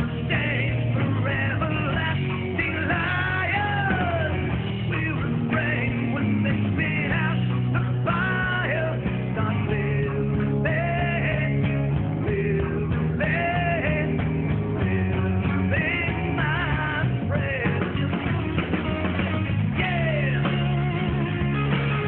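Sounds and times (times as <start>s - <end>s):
guitar: 0.0s - 22.0s
rock song with vocals: 0.0s - 22.0s.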